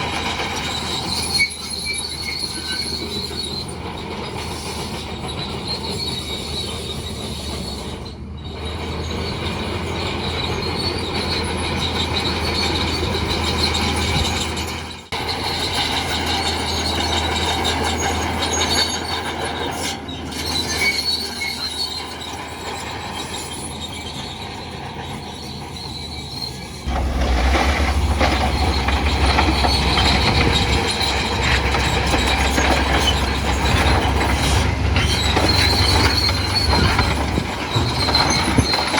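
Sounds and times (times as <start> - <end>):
diesel engine running: 0.0 - 38.9
steel tracks squealing and clanking: 0.0 - 38.9.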